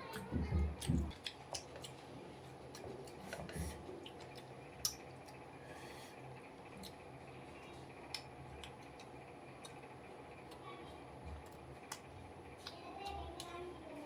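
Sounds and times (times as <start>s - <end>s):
person chewing food: 0.1s - 12.8s.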